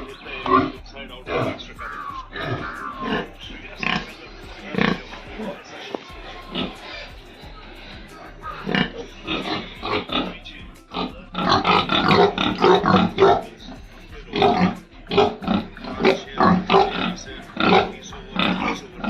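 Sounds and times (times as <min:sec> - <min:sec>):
pigs grunting: 0:00.0 - 0:19.0.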